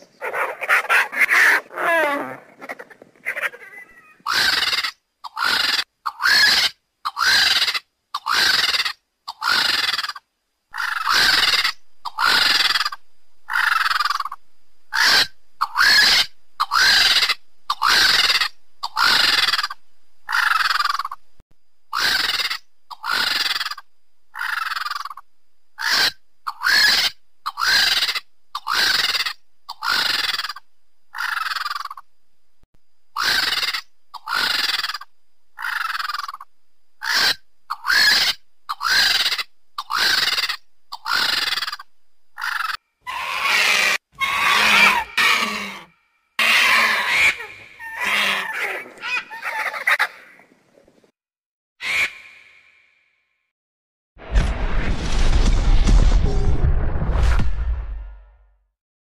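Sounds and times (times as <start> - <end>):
vulture calling: 0.0 - 21.2, 21.9 - 32.1, 33.1 - 50.4, 51.8 - 52.8.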